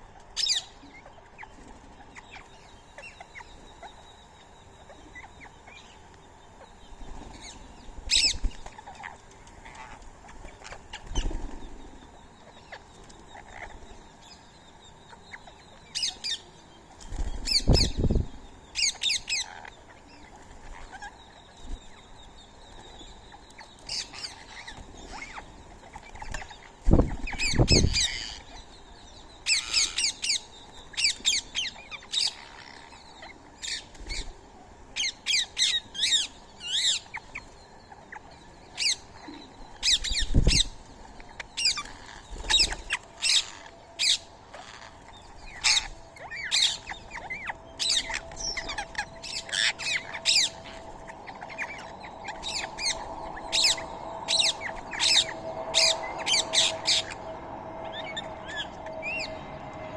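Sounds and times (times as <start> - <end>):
birds chirping and squawking: 0.0 - 59.9
faint steady hum: 0.0 - 59.9.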